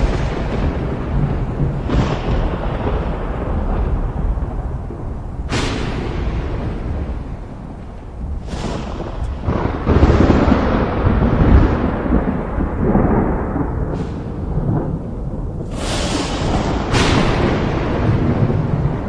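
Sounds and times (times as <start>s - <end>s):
steady rain hissing: 0.0s - 19.0s
thunder cracks and rumble: 0.0s - 19.0s.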